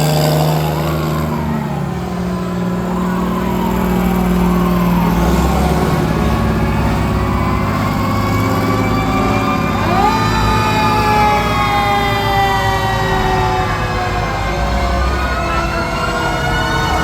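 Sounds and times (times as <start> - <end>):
fire truck siren: 0.0 - 17.0
truck engine: 0.0 - 17.0.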